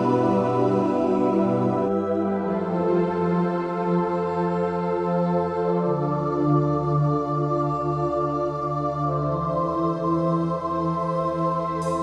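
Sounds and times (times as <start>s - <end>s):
ambient music of held chords: 0.0s - 12.0s.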